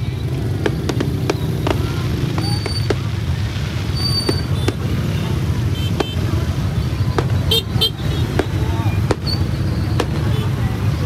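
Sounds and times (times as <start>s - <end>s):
crowd chatting: 0.0s - 11.0s
fireworks cracking: 0.0s - 11.0s
motorbike engines rumbling: 0.0s - 11.0s.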